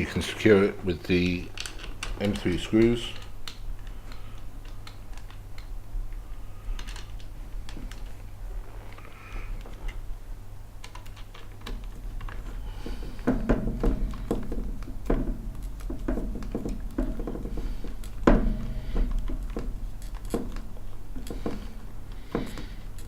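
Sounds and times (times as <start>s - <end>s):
steady low hum: 0.0s - 23.0s
small parts clicking and tapping: 1.0s - 8.3s, 10.8s - 23.0s.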